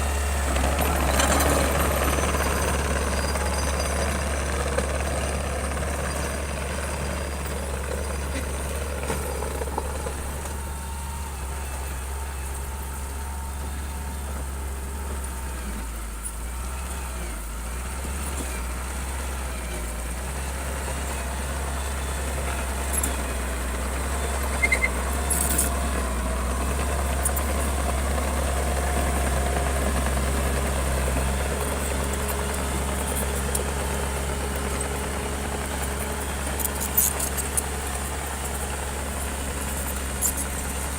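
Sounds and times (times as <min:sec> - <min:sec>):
bulldozer engine running: 0:00.0 - 0:40.9.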